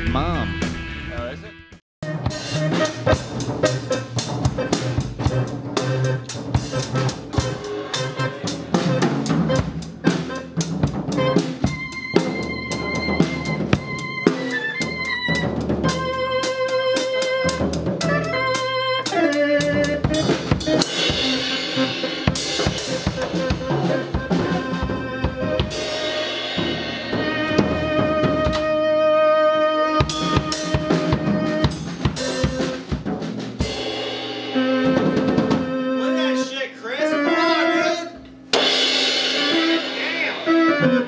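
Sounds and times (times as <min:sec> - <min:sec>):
drum kit playing: 0:00.0 - 0:01.4, 0:02.0 - 0:36.5, 0:37.1 - 0:41.0
held pitched notes: 0:00.0 - 0:41.0.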